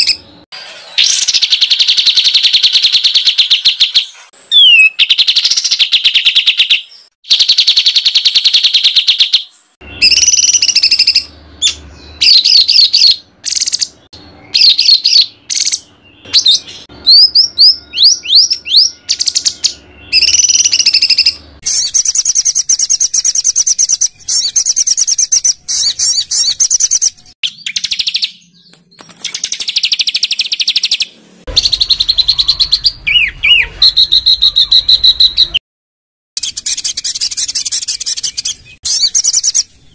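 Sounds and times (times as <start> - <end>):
songbird song with fast trills: 1.0 - 35.6, 36.4 - 39.9.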